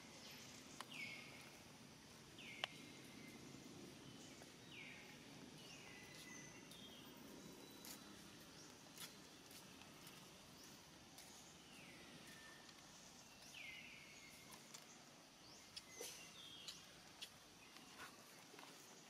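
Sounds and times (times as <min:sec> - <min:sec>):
faint outdoor hiss: 0:00.0 - 0:19.0.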